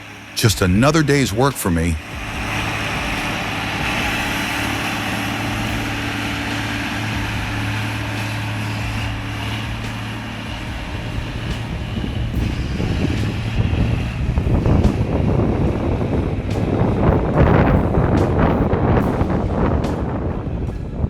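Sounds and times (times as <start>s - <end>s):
diesel engine humming under load: 0.0s - 21.0s.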